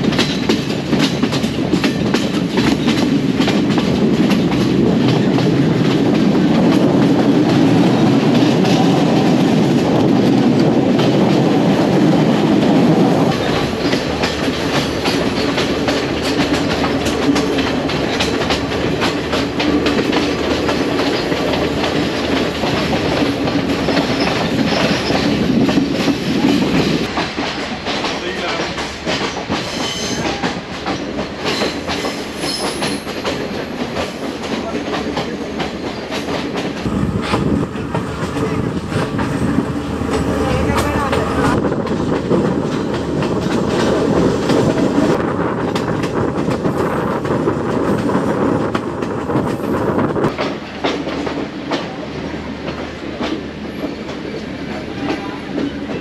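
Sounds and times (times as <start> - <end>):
carriages rumbling: 0.0 - 56.0
train wheels clattering over rails: 0.0 - 56.0.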